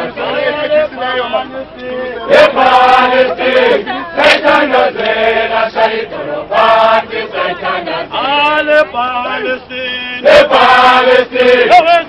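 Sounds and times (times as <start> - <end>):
crowd singing in unison: 0.0 - 12.0.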